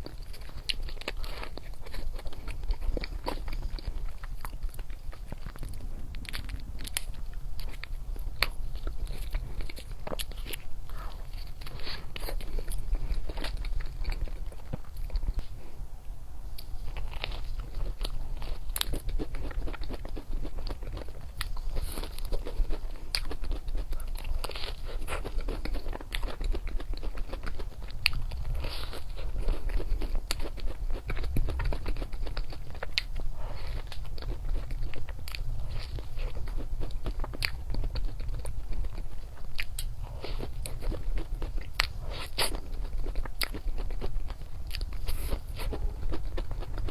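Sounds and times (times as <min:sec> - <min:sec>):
chocolate crunching: 0:00.0 - 0:15.4, 0:16.6 - 0:46.9
chewing with mouth clicks: 0:00.0 - 0:15.8, 0:16.5 - 0:46.9.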